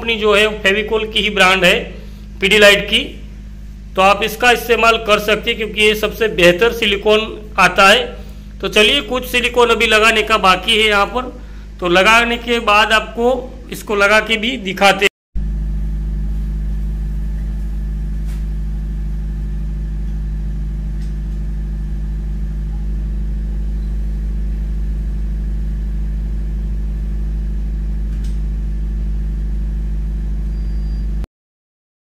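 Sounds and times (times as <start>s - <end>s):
low mechanical hum: 0.0s - 31.3s.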